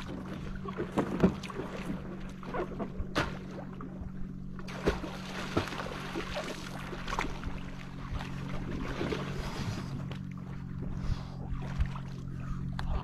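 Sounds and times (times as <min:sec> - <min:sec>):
steady low hum: 0:00.0 - 0:13.0
water splashing and lapping: 0:00.0 - 0:13.0.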